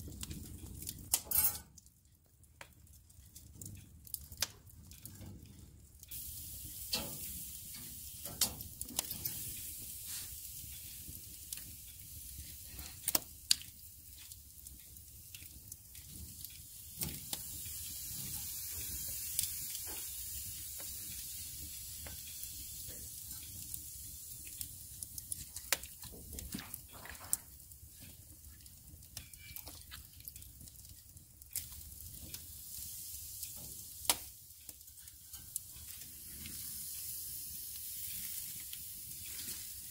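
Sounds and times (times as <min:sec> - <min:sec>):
fire crackling and popping: 0:00.0 - 0:39.9
meat sizzling: 0:05.9 - 0:39.9.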